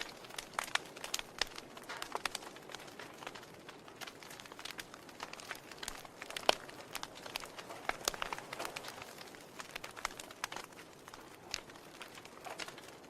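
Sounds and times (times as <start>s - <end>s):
soft fire hiss: 0.0s - 13.0s
wood fire crackling and popping: 0.0s - 13.0s.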